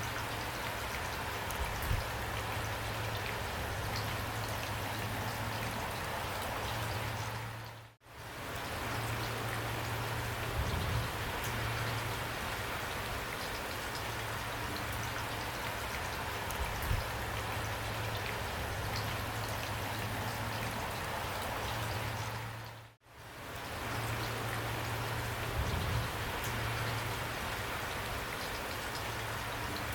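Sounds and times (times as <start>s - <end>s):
heavy rain: 0.0s - 29.9s.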